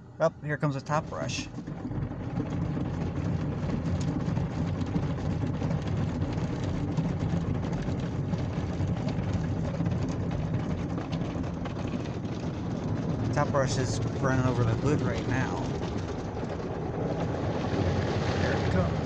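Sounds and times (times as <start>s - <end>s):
car wash brush rumbling: 0.0s - 19.0s.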